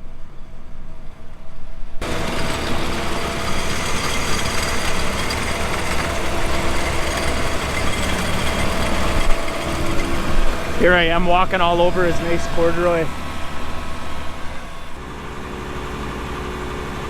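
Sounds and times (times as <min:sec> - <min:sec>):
diesel engine running: 0:02.0 - 0:17.0.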